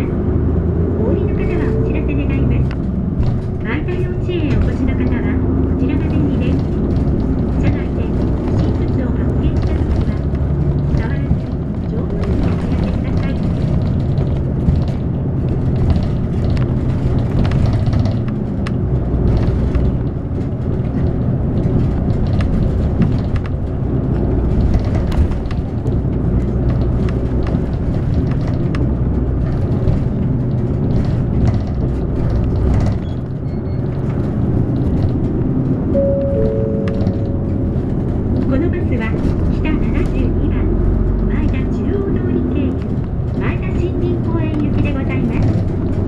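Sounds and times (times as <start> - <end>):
bus engine droning: 0.0 - 46.0
road and tyre noise: 0.0 - 46.0.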